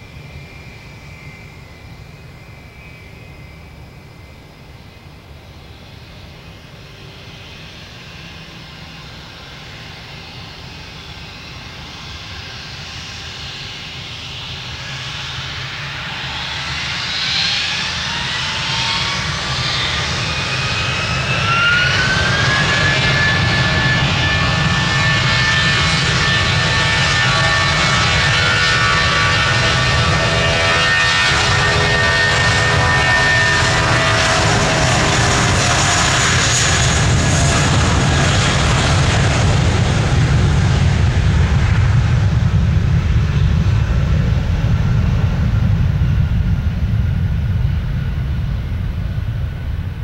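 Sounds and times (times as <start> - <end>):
jet engines spooling up: 5.6 - 50.0.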